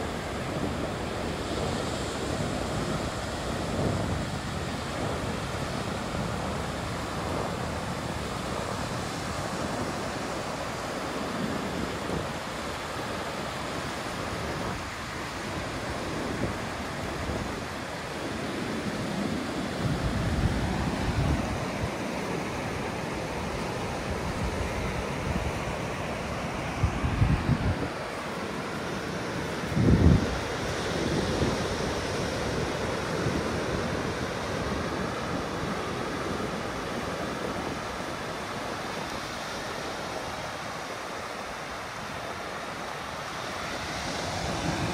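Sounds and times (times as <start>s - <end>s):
ocean surf washing: 0.0s - 44.9s
wind buffeting microphone: 0.0s - 44.9s.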